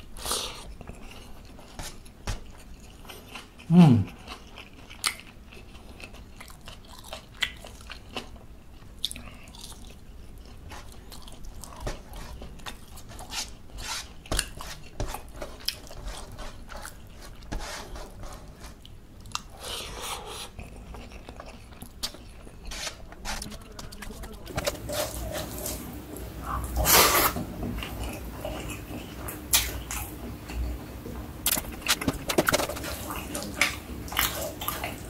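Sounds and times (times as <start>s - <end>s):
chewing and crunching food: 0.0s - 35.0s.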